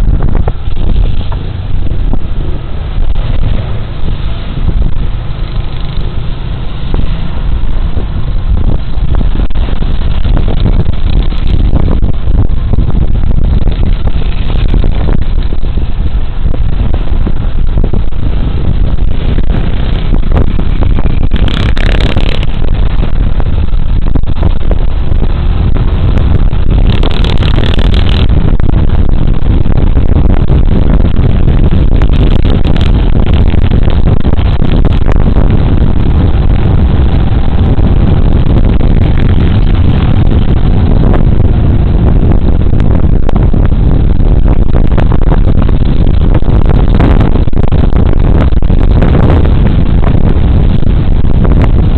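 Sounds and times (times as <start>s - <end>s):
road drone: 0.0s - 51.9s
wind buffeting microphone: 0.0s - 51.9s.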